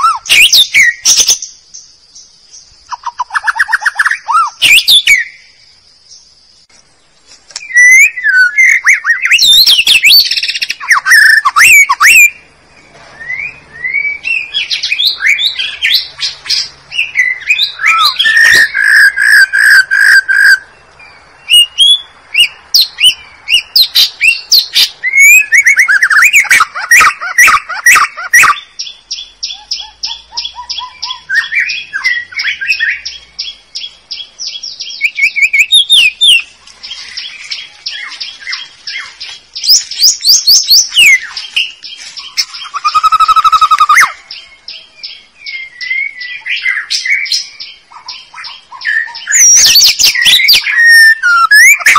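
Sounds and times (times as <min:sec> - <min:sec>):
songbird singing whistled phrases: 0:00.0 - 0:06.3, 0:07.5 - 0:51.9.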